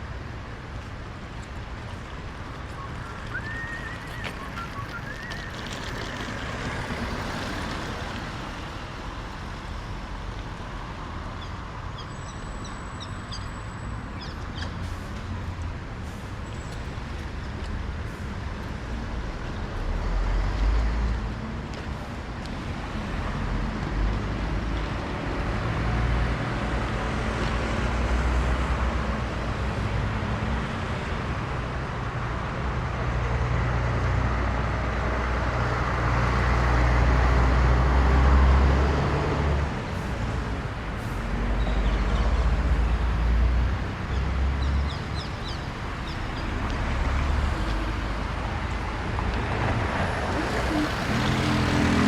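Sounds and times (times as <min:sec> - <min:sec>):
cars driving past: 0:00.0 - 0:52.0.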